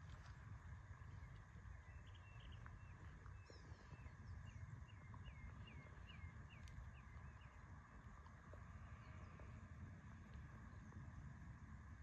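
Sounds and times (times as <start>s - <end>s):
low steady rumble: 0.0s - 12.0s
faint whistled birdsong: 0.9s - 11.4s.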